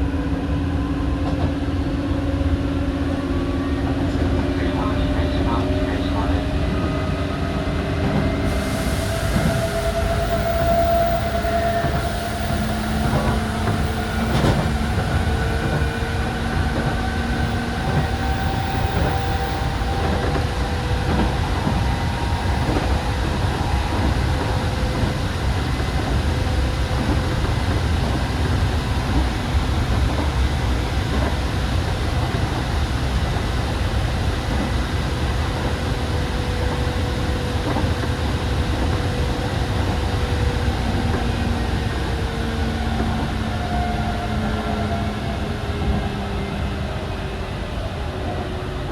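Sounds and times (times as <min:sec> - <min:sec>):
train running rumble: 0:00.0 - 0:48.9.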